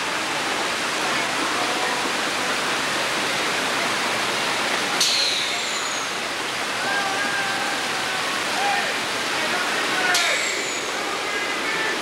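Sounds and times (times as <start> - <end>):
water rushing down flume: 0.0 - 12.0.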